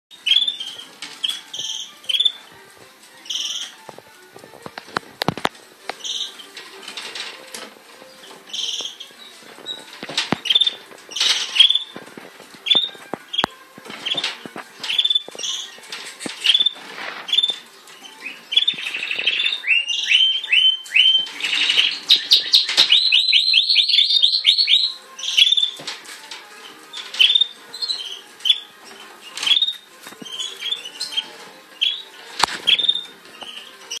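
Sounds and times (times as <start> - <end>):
bird trilling song: 0.1 - 3.9, 5.2 - 34.0
canary chirping: 0.1 - 34.0.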